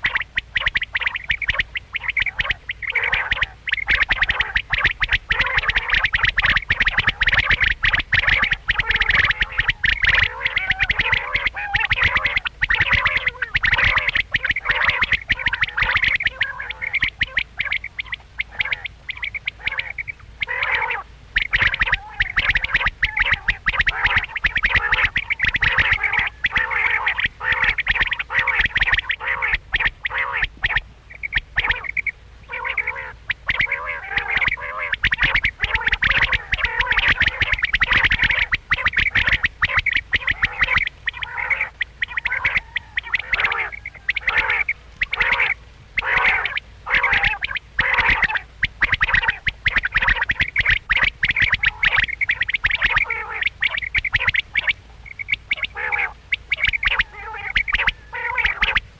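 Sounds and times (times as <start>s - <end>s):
quails calling: 0.0s - 58.9s.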